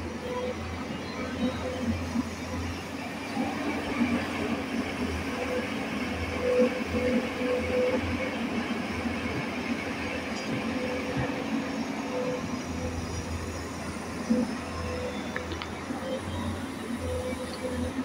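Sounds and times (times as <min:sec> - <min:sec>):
excavator engine and hydraulics droning: 0:00.0 - 0:18.0.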